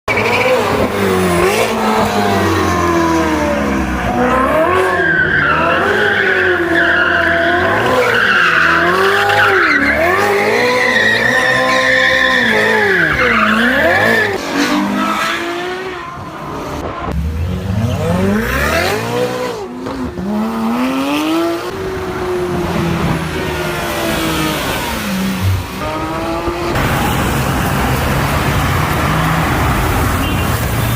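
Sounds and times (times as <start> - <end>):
sports car engines revving: 0.1 - 30.9.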